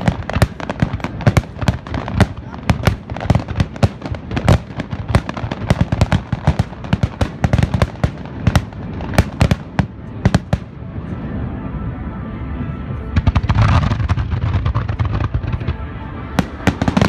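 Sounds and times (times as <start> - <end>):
fireworks bursting: 0.0 - 10.7, 13.2 - 17.0.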